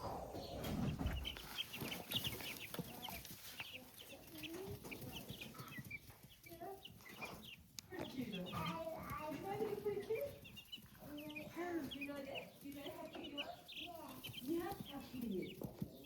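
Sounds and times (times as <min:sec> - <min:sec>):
chicks cheeping: 0:00.0 - 0:16.0.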